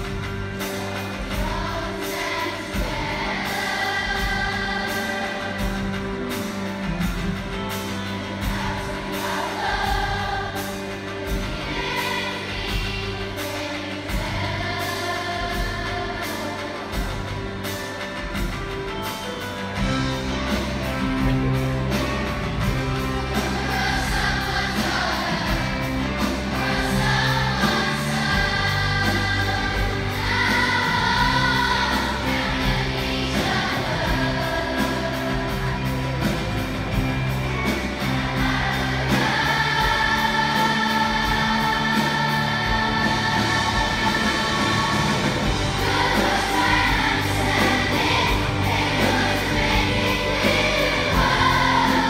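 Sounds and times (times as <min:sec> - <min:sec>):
backing band playing: 0:00.0 - 0:52.0
children's choir singing: 0:00.0 - 0:52.0.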